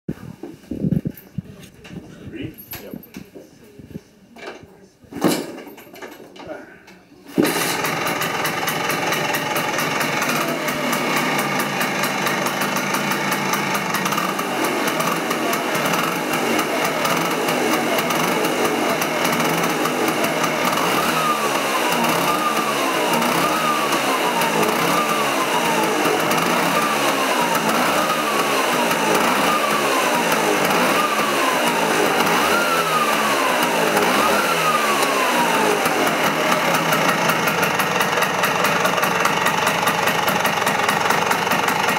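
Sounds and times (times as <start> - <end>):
engine revving: 7.4 - 41.9
scooter engine running: 7.4 - 41.9.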